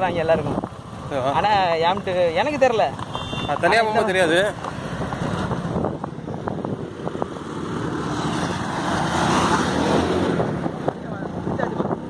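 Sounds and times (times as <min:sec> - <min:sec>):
rushing wind: 0:00.0 - 0:02.4, 0:03.0 - 0:12.0
road noise: 0:00.0 - 0:12.0.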